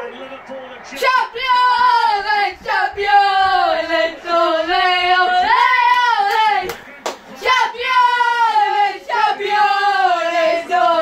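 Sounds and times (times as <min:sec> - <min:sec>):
young voices singing together: 0:01.0 - 0:06.7, 0:07.4 - 0:11.0.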